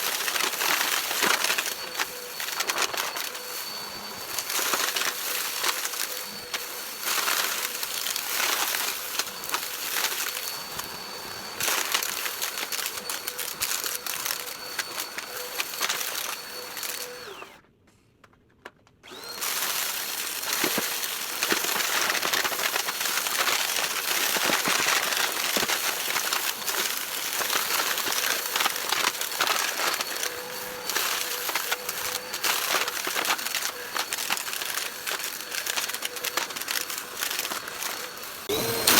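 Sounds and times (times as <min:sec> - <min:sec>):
vacuum cleaner whining: 0:00.0 - 0:17.7, 0:19.0 - 0:38.9.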